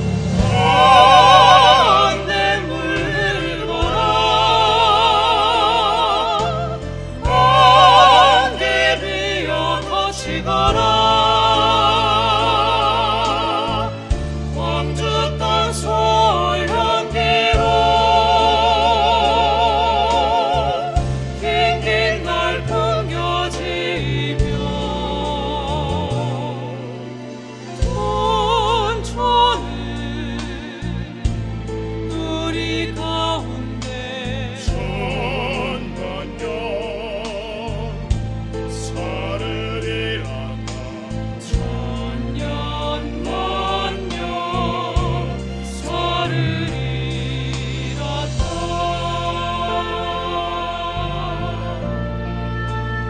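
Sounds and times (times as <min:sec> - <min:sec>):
low sustained accompaniment: 0:00.0 - 0:53.0
vocal ensemble singing: 0:00.0 - 0:53.0.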